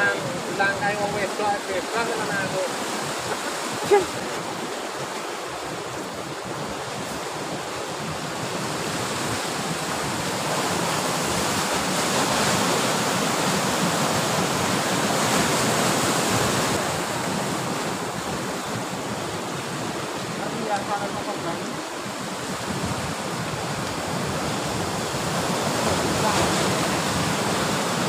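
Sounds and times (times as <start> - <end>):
sea surf washing against rocks: 0.0 - 28.0.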